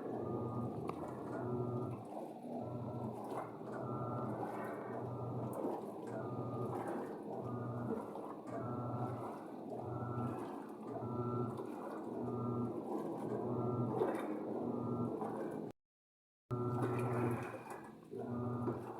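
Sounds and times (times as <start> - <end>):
washing machine motor humming: 0.0 - 15.7, 16.5 - 18.9
water churning: 0.0 - 15.7.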